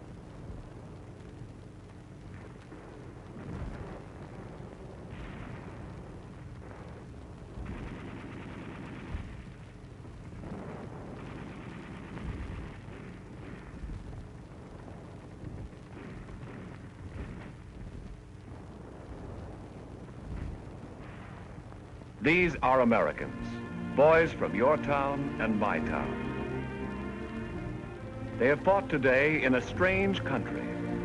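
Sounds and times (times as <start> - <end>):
film hiss and hum: 0.0 - 31.0
battle rumble: 2.2 - 31.0.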